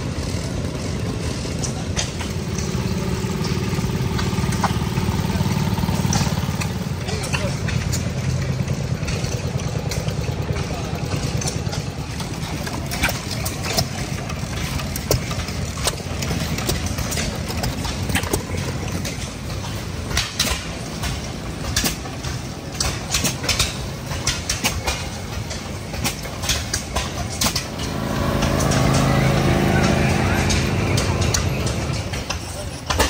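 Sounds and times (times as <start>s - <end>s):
lawn tractor engine: 0.0s - 33.0s
stationary engines popping: 0.0s - 33.0s.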